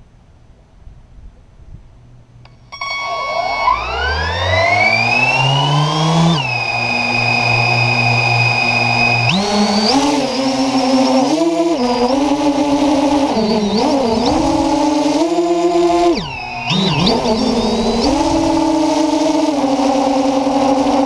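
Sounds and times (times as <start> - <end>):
drone motors whining: 2.5 - 21.0.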